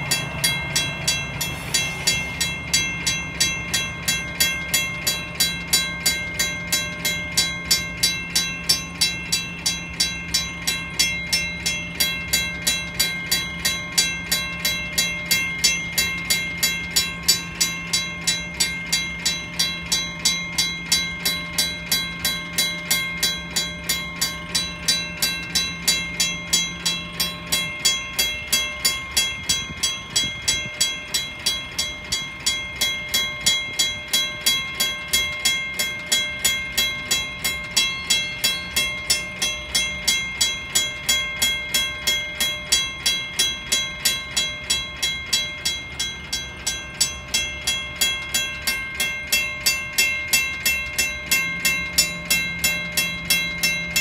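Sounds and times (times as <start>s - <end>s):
crossing bell ringing: 0.0s - 54.0s.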